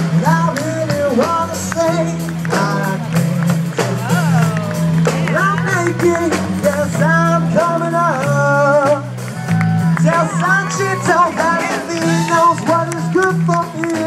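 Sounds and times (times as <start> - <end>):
man singing into microphone: 0.0 - 3.5, 4.1 - 9.2, 9.8 - 14.0
drums: 0.0 - 14.0
electric bass: 0.0 - 14.0
electric guitar: 0.0 - 14.0.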